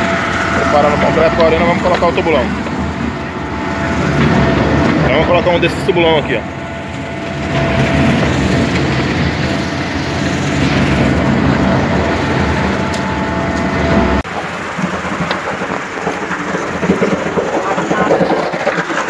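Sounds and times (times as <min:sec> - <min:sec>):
truck engine running: 0:00.0 - 0:19.0
uneven running noise: 0:00.0 - 0:19.0.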